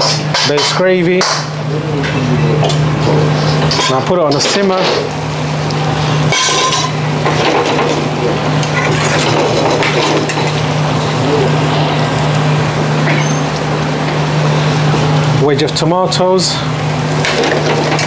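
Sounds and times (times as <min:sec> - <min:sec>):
gas burners and extraction hum: 0:00.0 - 0:18.0.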